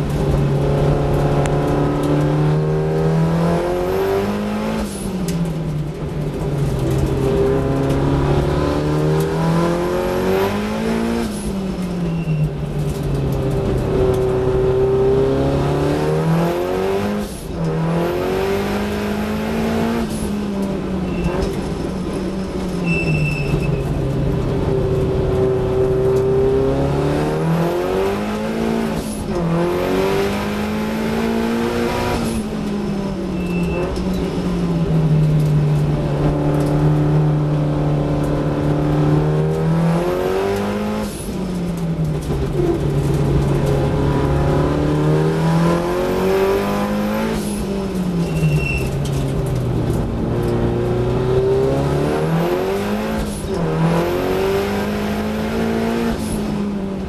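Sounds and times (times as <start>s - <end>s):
race car engine revving: 0.0s - 11.9s, 12.8s - 22.7s, 23.4s - 57.0s
gear changes: 0.0s - 57.0s.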